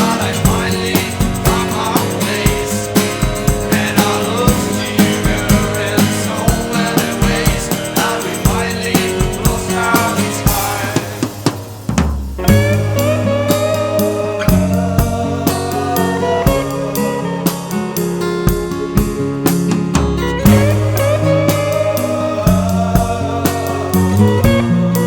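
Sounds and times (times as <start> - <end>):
drum kit beat: 0.0 - 25.0
rock band playing: 0.0 - 25.0.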